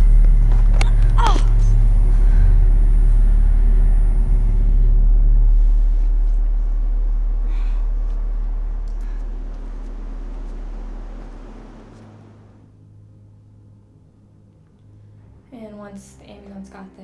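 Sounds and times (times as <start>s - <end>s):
deep low rumbling drone: 0.0s - 16.6s.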